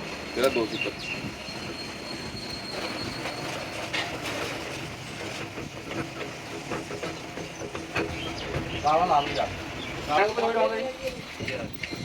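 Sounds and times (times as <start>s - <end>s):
steel grinding noise: 0.0s - 12.0s.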